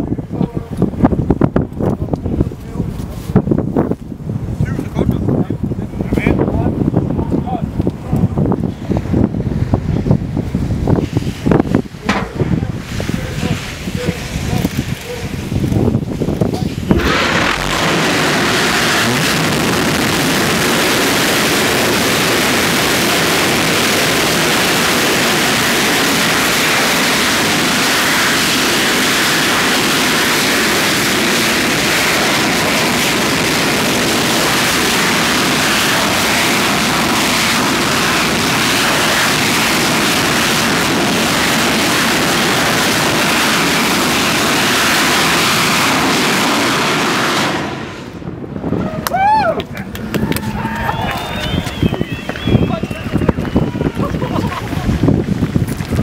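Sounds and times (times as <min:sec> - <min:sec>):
rocket engine roaring: 0:04.8 - 0:56.0.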